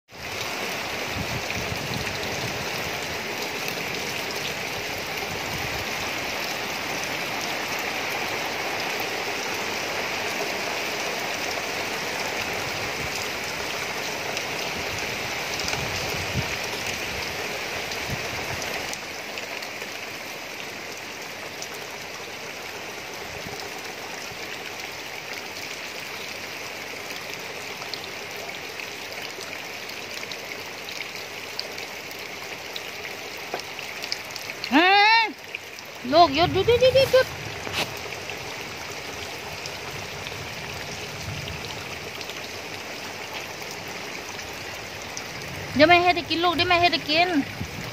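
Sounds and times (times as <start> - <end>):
heavy rain on plants and roof: 0.1 - 47.9.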